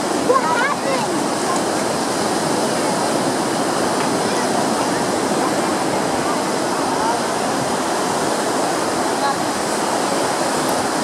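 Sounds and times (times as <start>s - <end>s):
ocean surf on beach: 0.0s - 11.0s.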